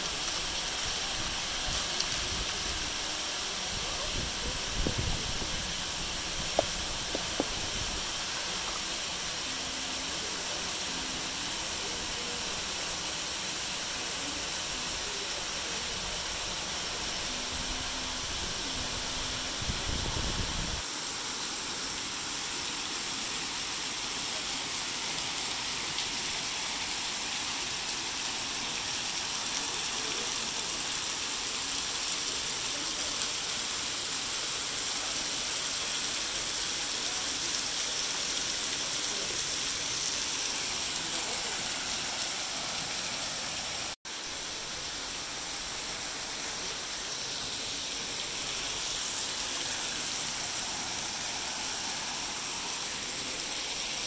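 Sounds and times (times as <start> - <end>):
falling water rushing: 0.0 - 54.0.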